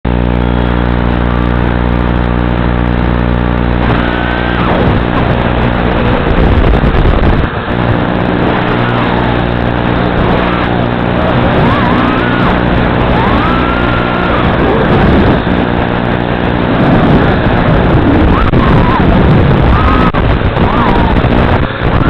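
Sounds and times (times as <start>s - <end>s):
drone motors whining: 0.1s - 22.0s
steady buzz: 0.1s - 22.0s.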